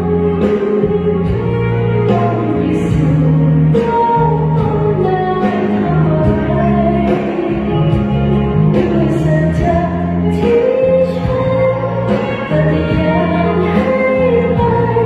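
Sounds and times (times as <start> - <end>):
bass notes and steady beat: 0.0 - 15.0
person singing: 0.0 - 15.0.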